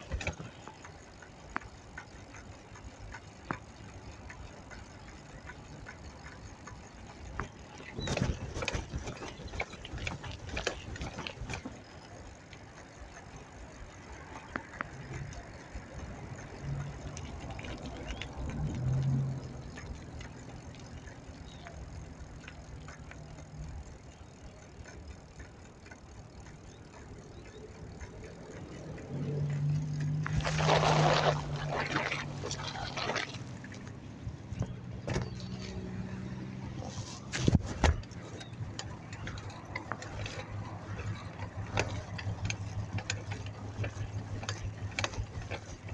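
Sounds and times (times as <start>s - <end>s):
bicycle rattles and clicks: 0.0s - 45.9s
low traffic hum: 0.0s - 45.9s
road noise: 0.0s - 45.9s.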